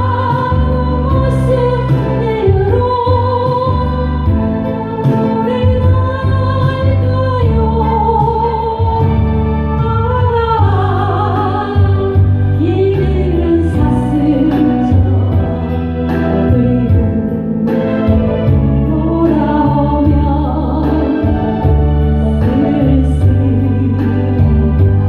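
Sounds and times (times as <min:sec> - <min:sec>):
person singing a ballad: 0:00.0 - 0:25.0
steady bass: 0:00.0 - 0:25.0.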